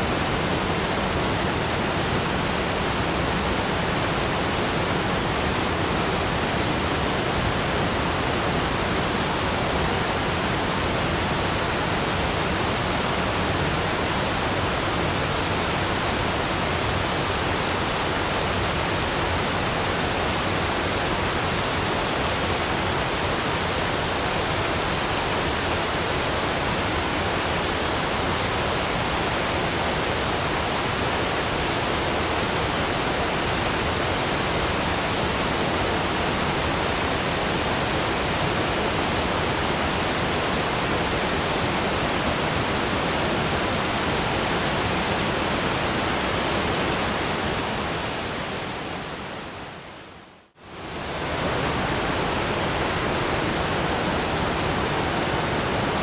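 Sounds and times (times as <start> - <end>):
steady brown noise rushing: 0.0 - 56.0.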